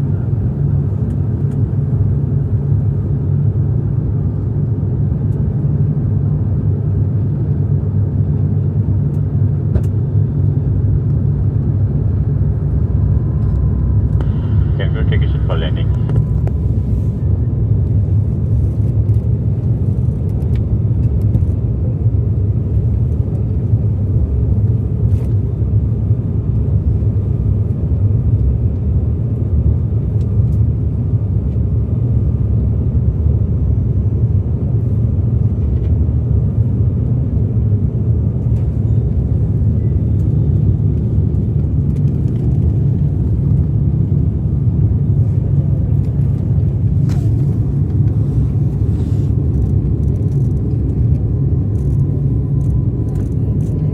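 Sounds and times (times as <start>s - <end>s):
airliner engines rumbling in cabin: 0.0s - 53.9s.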